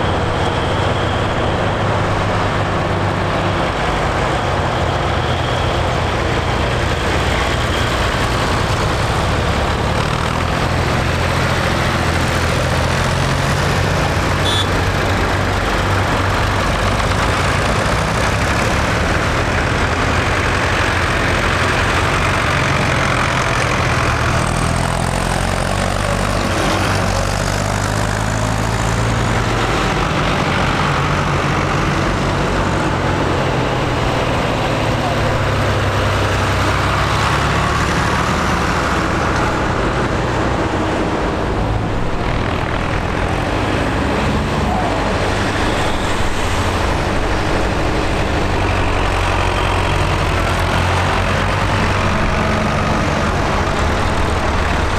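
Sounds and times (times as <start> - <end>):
tractor diesel engines passing: 0.0 - 54.9.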